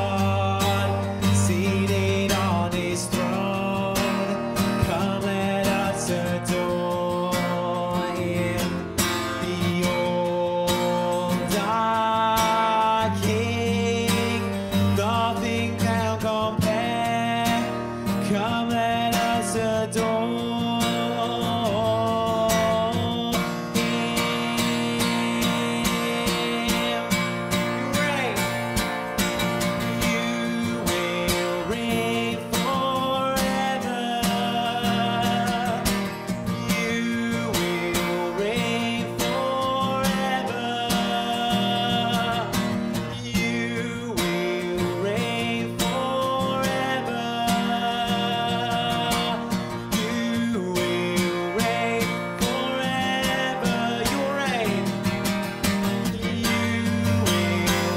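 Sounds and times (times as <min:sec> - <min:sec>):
strummed acoustic guitar: 0:00.0 - 0:57.9
worship band music: 0:00.0 - 0:57.9.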